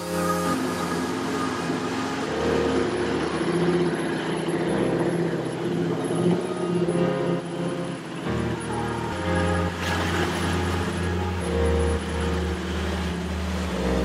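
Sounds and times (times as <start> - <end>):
vehicle engine: 0.0 - 14.0.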